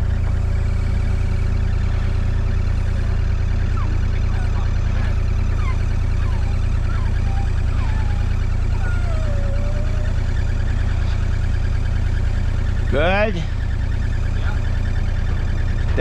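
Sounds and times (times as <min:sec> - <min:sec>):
machine engine rumbling: 0:00.0 - 0:16.0.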